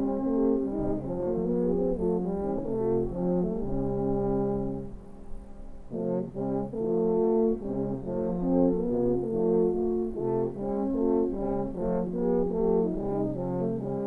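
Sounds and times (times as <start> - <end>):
brass horns playing: 0.0 - 5.0, 5.9 - 14.0.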